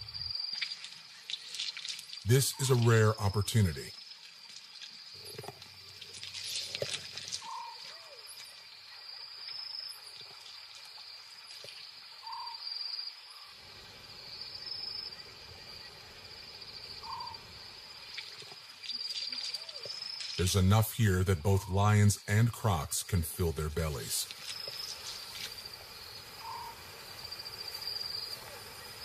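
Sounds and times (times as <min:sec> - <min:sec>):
high insect trill: 0:00.0 - 0:29.0.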